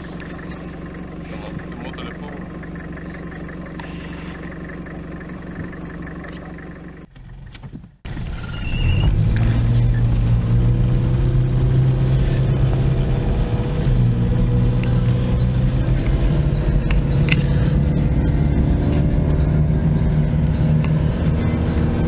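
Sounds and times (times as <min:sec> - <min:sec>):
loud car engine: 0:00.0 - 0:22.0
quiet engine hum: 0:00.0 - 0:22.0.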